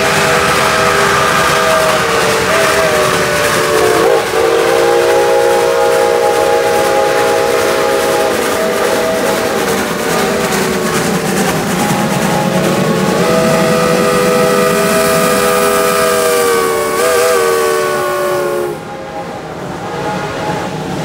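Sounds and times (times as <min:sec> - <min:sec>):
steam whistles blowing: 0:00.0 - 0:20.8
rush of steam and exhaust: 0:00.0 - 0:21.0.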